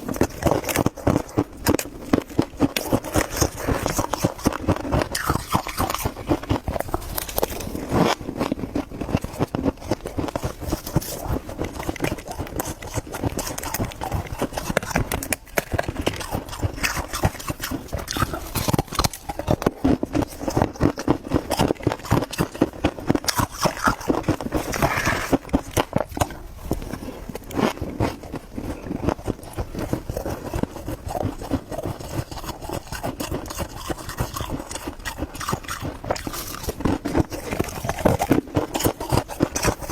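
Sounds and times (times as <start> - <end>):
crisp crunches of chewing frost: 0.0 - 39.9.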